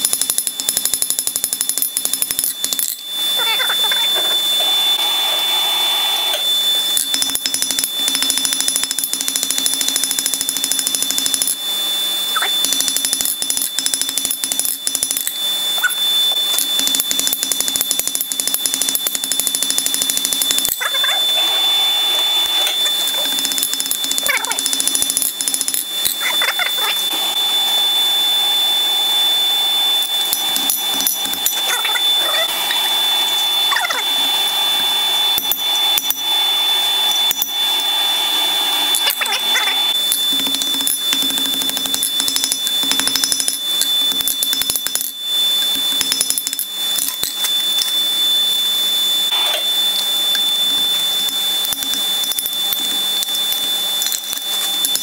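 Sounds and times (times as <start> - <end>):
steady high whine: 0.0 - 55.0.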